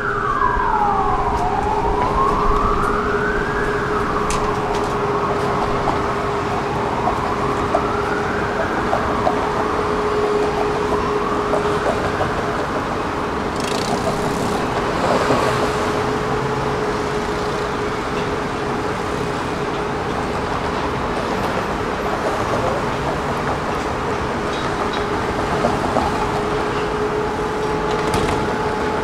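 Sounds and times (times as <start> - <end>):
electric tram running on track: 0.0 - 29.0.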